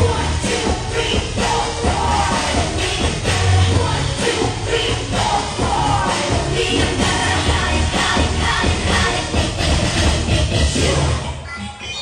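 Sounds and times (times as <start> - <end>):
dance music with pulsing bass: 0.0 - 11.3.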